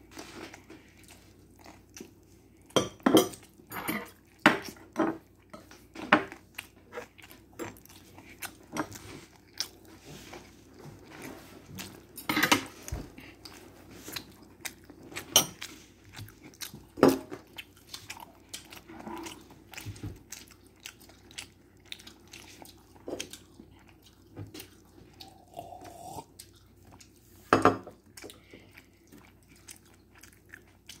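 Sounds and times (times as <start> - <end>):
child chewing and crunching food: 0.0 - 31.0.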